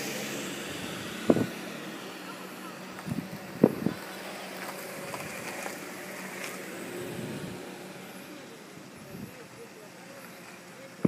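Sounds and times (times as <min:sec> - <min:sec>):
outdoor background hum: 0:00.0 - 0:11.0.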